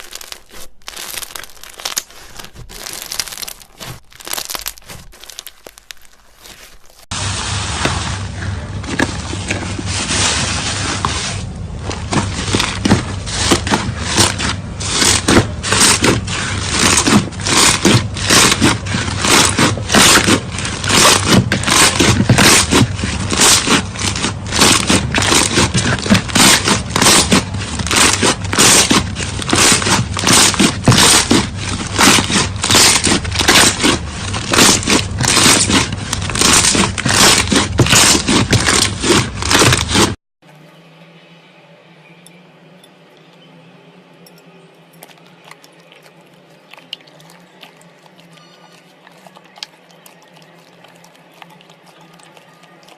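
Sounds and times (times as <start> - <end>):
crunchy slime squelches: 0.0 - 40.2, 44.9 - 52.9.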